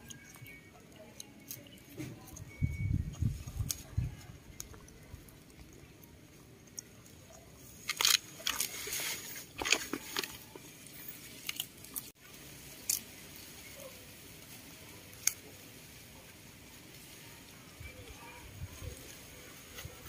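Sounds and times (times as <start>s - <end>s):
animals chewing leaves: 0.0s - 20.0s.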